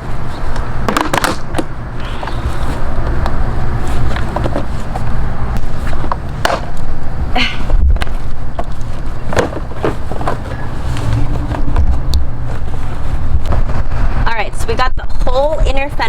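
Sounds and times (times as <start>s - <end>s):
heavy low rumble: 0.0s - 16.0s.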